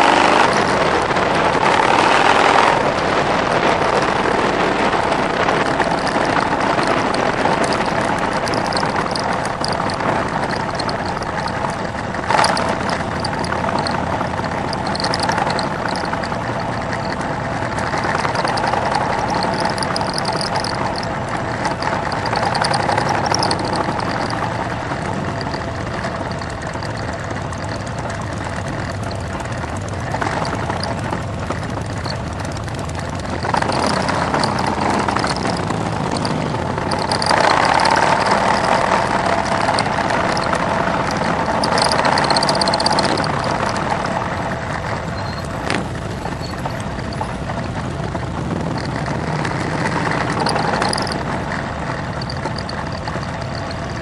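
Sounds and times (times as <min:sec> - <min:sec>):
motorcycle engines: 0:00.0 - 0:54.0.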